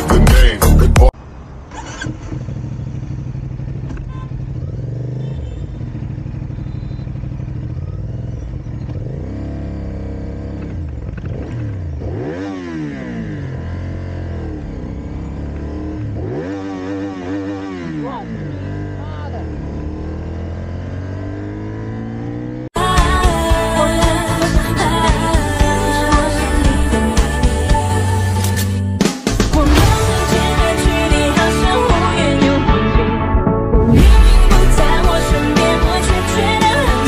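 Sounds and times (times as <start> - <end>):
motorcycle engine revving: 1.5 - 32.8.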